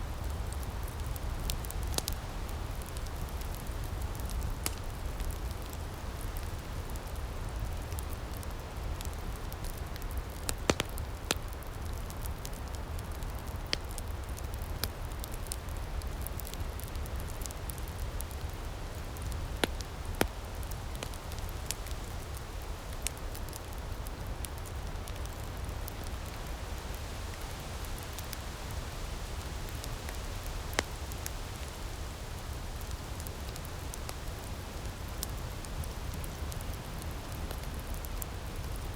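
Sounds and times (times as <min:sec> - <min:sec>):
low rumble of breeze: 0:00.0 - 0:38.9
wood fire crackling and popping: 0:00.1 - 0:38.9.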